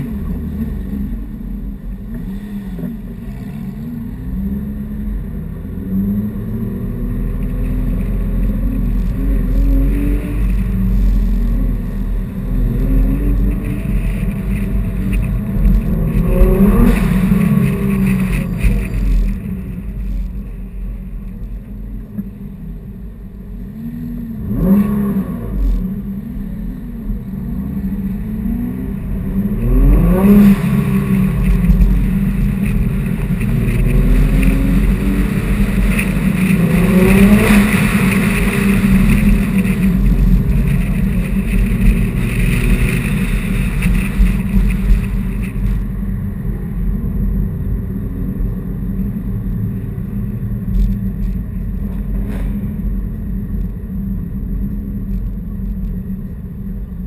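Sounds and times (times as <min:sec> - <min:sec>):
road and wind noise: 0:00.0 - 0:57.0
sports car engine accelerating: 0:00.0 - 0:57.0.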